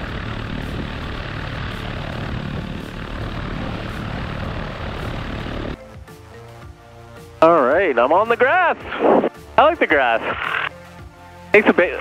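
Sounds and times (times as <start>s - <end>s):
light plane engine and propeller: 0.0s - 12.0s.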